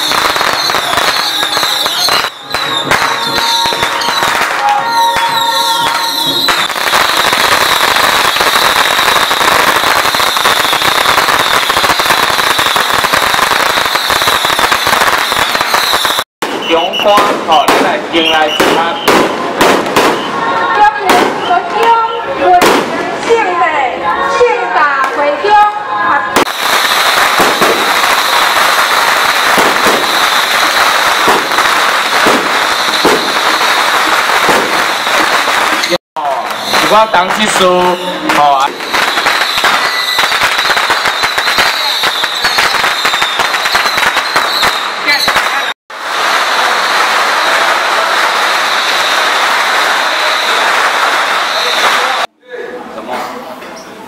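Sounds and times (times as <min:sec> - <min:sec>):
sharp firecracker bangs: 0:00.0 - 0:23.4, 0:26.4 - 0:52.3
firecrackers crackling: 0:00.0 - 0:23.7, 0:26.3 - 0:52.4.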